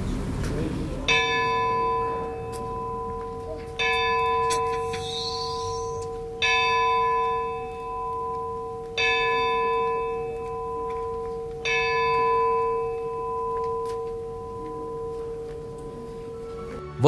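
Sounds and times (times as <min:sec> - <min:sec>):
clock bell striking: 0:01.0 - 0:16.8.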